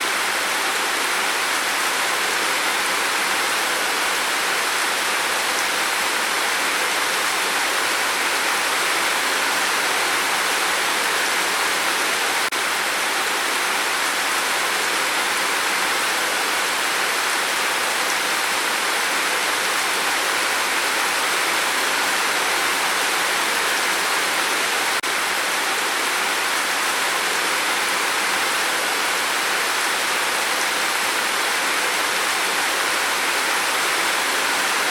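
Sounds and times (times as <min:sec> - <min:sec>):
rain on a tin roof: 0:00.0 - 0:34.9.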